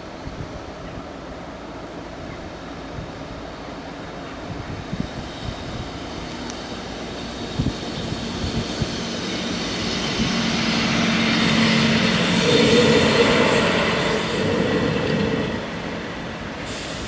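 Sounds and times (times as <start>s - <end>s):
railcar passing: 0.0s - 17.0s.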